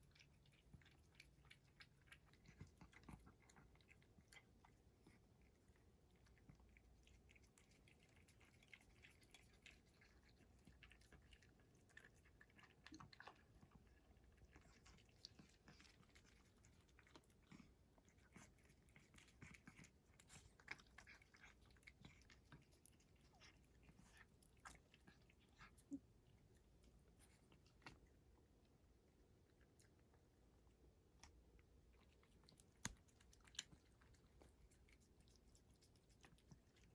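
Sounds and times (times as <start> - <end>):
cat chewing food: 0.0 - 36.9.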